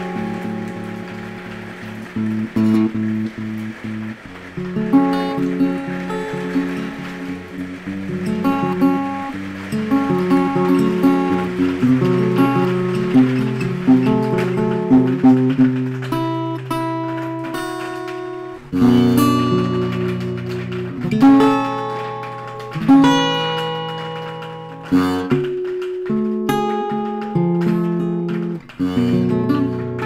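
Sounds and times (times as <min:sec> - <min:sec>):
acoustic guitar plucked and strummed: 0:00.0 - 0:30.0.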